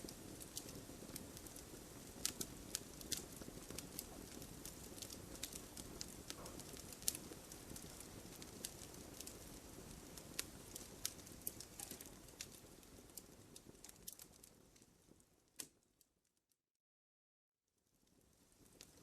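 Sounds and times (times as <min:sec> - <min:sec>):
wood fire crackling and popping: 0:00.0 - 0:16.1, 0:17.8 - 0:19.0.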